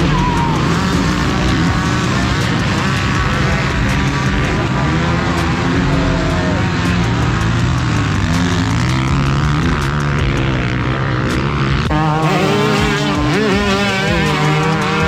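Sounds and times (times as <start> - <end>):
dirt bike engines running: 0.0 - 15.0
music: 0.0 - 15.0.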